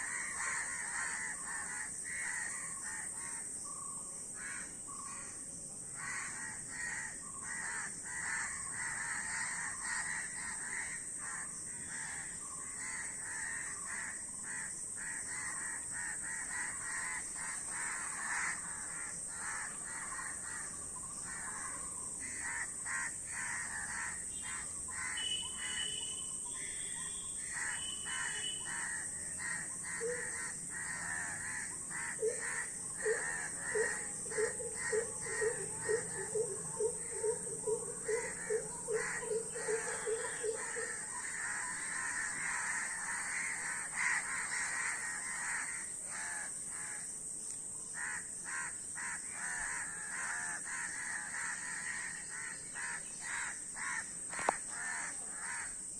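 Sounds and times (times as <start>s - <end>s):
crows cawing: 0.0s - 3.5s, 4.4s - 5.3s, 6.0s - 47.1s, 47.9s - 55.8s
steady high-pitched hiss: 0.0s - 55.9s.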